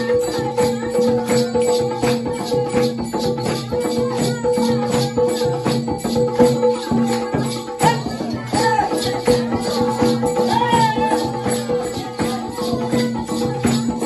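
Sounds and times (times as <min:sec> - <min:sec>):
rattling percussion: 0:00.0 - 0:14.0.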